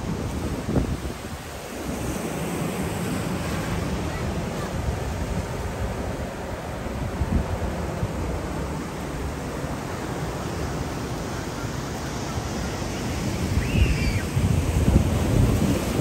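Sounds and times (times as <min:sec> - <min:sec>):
wind buffeting microphone: 0:00.0 - 0:09.2, 0:10.1 - 0:16.0
ocean surf breaking: 0:00.0 - 0:16.0.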